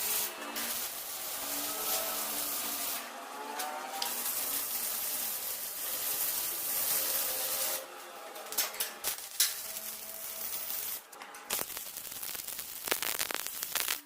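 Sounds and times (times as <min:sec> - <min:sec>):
arc welding hiss and crackle: 0:00.0 - 0:14.0.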